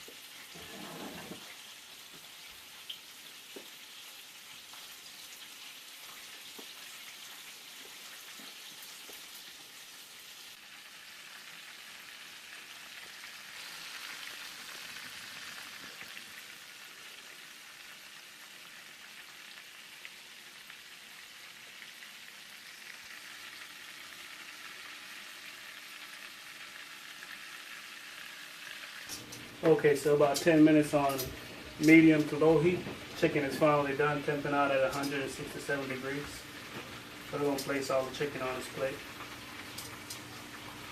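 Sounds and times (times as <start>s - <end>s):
chicken frying in oil: 0.0s - 40.9s.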